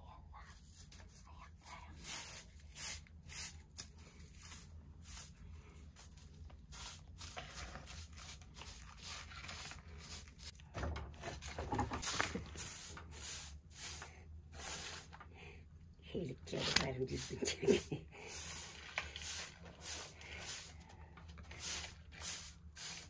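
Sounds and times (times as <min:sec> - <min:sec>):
straw broom sweeping earthen floor: 0:00.5 - 0:10.5, 0:12.0 - 0:15.2, 0:16.5 - 0:23.0.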